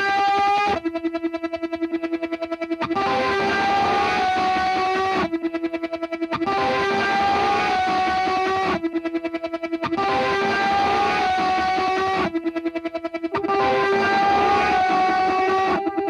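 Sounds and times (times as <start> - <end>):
distorted electric guitar music: 0.0 - 16.0.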